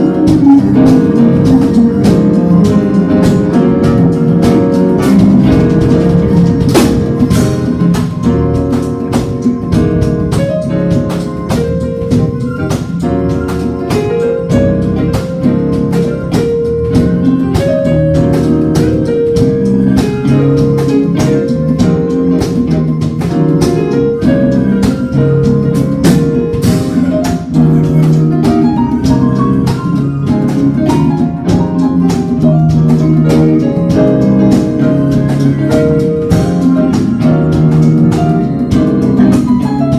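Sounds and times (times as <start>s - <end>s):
drum kit steady beat: 0.0s - 39.9s
guitar: 0.0s - 39.9s.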